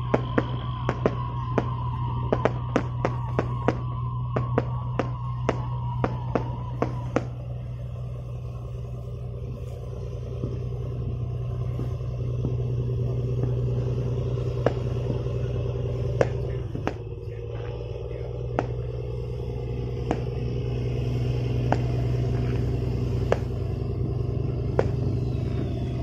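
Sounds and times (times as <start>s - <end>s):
boat engine droning: 0.0s - 26.0s
sharp cracks: 0.0s - 26.0s.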